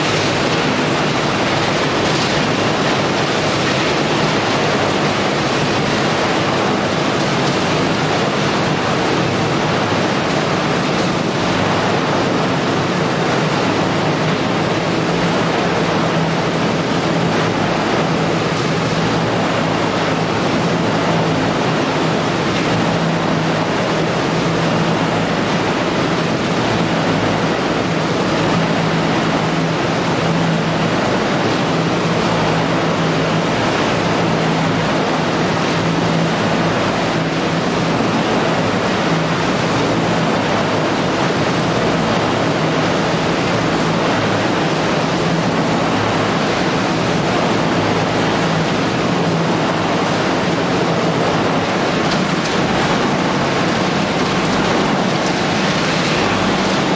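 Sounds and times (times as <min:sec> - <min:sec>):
waste shredding machinery din: 0:00.0 - 0:56.9.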